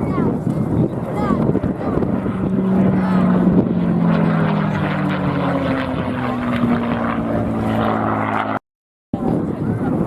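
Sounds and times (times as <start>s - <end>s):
propeller aircraft engine droning: 0.0s - 8.6s, 9.2s - 10.0s.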